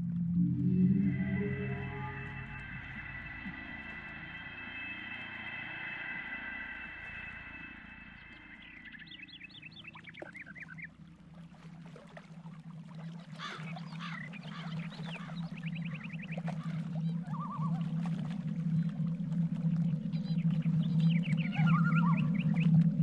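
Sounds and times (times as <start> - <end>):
low steady drone: 0.0 - 23.0
waterbirds chattering calls: 1.1 - 23.0.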